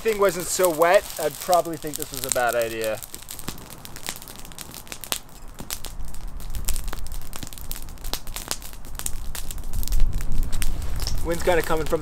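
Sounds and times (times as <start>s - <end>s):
burning wood snapping and popping: 0.0s - 12.0s
campfire crackling: 0.0s - 12.0s.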